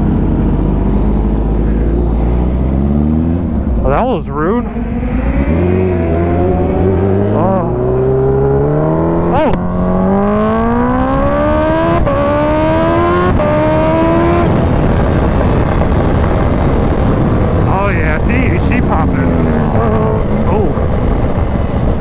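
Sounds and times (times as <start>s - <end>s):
motorcycle engine accelerating: 0.0s - 22.0s
wind rush: 0.0s - 22.0s.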